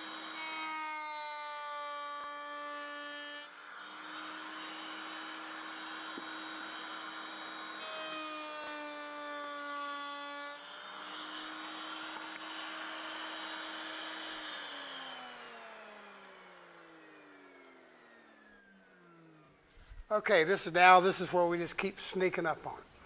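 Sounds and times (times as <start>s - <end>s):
power tool motor running: 0.0s - 19.6s
tool cutting wood: 0.0s - 20.0s.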